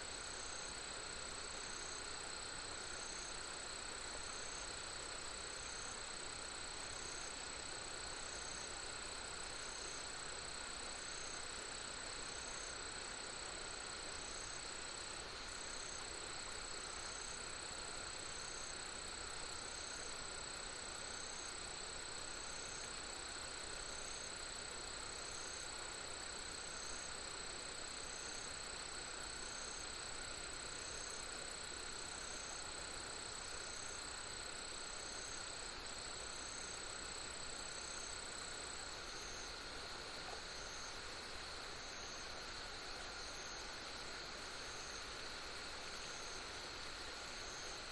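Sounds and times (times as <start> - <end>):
insects chirring: 0.2 - 47.9.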